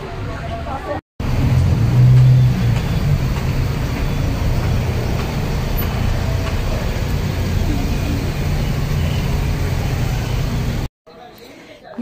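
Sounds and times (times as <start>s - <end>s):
traffic rumble: 0.0s - 10.9s
louder engine hum: 1.2s - 10.9s.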